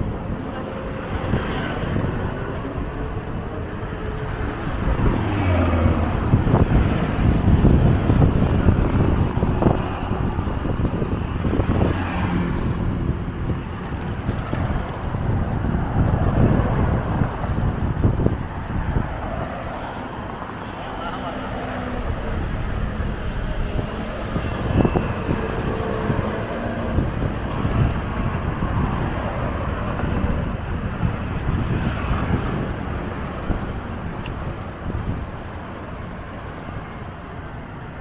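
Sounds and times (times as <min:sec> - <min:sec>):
vehicles driving past: 0:00.0 - 0:38.0.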